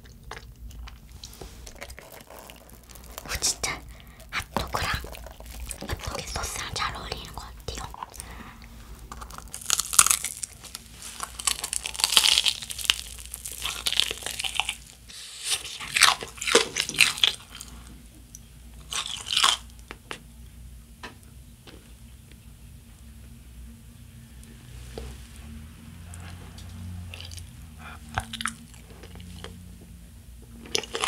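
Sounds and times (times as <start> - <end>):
crunching and chewing: 0.0 - 20.2, 26.0 - 31.0.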